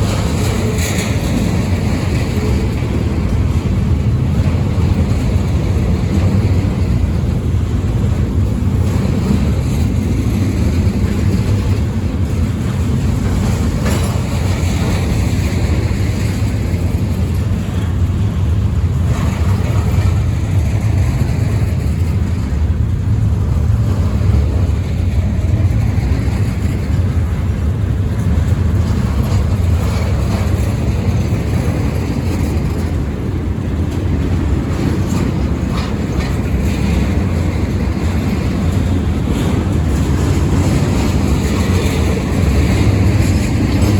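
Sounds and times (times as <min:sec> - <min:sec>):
freight train rumbling past: 0:00.0 - 0:43.9
wheel on rail clatter: 0:00.0 - 0:43.9.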